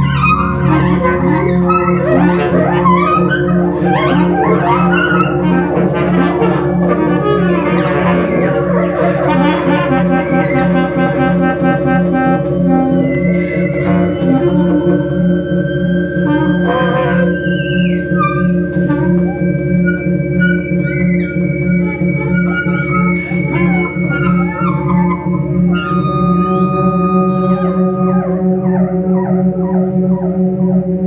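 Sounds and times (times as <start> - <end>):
bass clarinet: 0.0 - 31.0
pulsing low electronic drone: 0.0 - 31.0.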